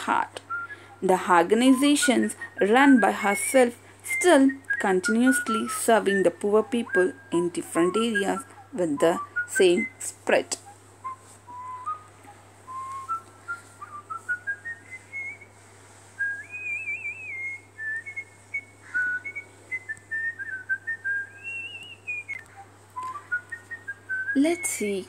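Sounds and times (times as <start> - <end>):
person whistling: 0.4 - 1.0, 4.2 - 25.0.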